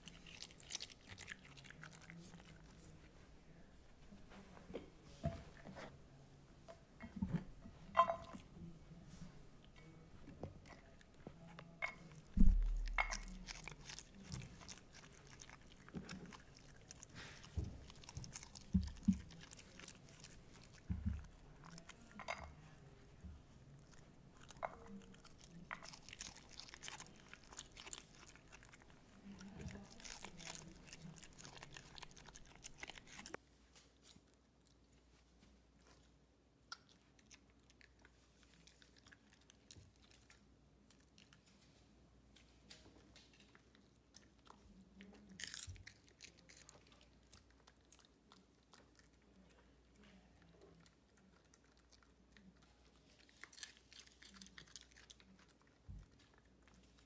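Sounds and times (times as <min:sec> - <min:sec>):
dog crunching cabbage: 0:00.0 - 0:03.2, 0:09.8 - 0:22.9, 0:23.6 - 0:35.2, 0:35.8 - 0:41.8, 0:42.4 - 0:57.0.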